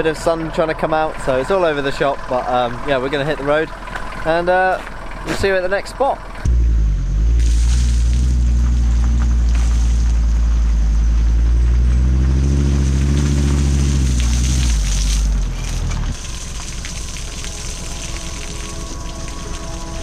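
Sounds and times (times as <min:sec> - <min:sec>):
van engine revving: 0:00.0 - 0:17.1.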